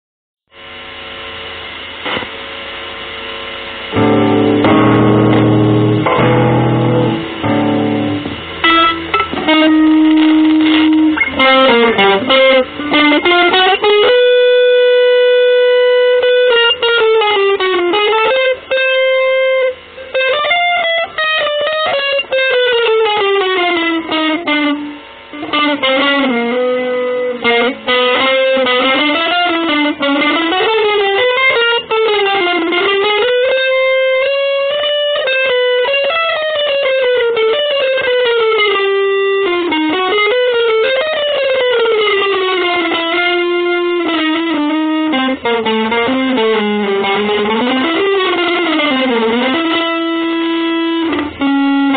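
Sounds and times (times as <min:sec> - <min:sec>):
electric guitar playing: 0:02.0 - 0:51.9.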